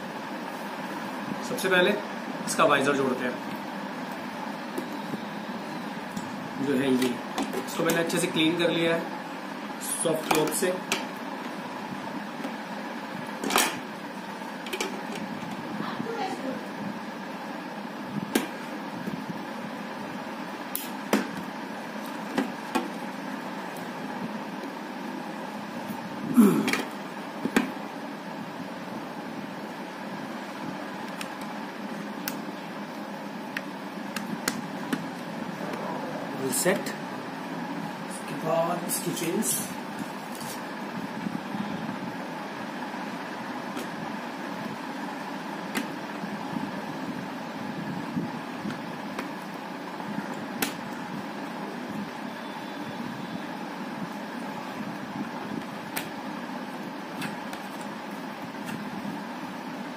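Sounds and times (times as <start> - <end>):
electric fan whirring: 0.0 - 59.9.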